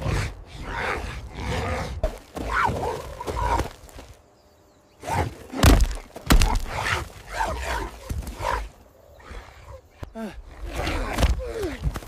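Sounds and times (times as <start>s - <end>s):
snarling and grunting: 0.0s - 3.7s, 5.0s - 12.0s.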